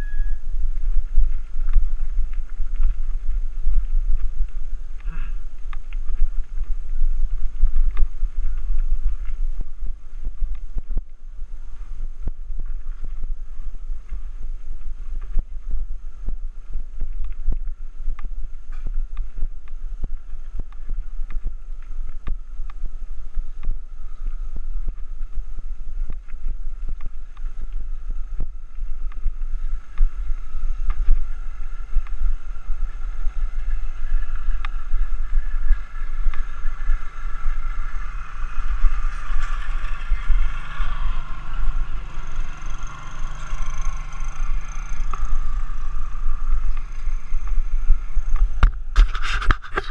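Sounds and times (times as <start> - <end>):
steady higher hum: 0.0 - 49.9
wind buffeting microphone: 0.0 - 49.9.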